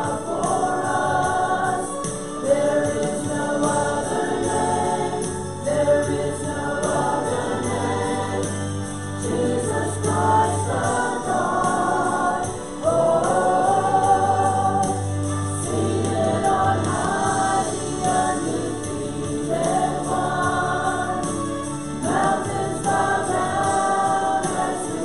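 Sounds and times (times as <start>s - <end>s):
group singing a hymn: 0.0s - 25.0s
instrumental backing with bass tone: 0.0s - 25.0s.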